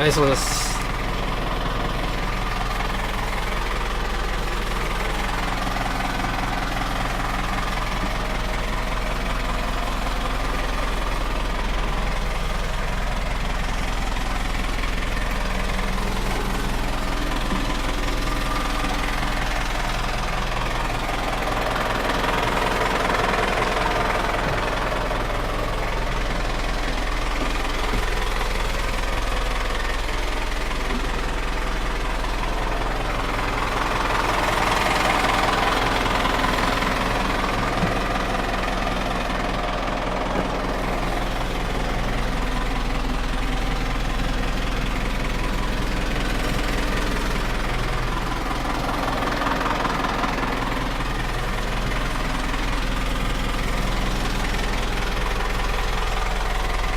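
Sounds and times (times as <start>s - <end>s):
truck diesel engine idling: 0.0s - 56.9s.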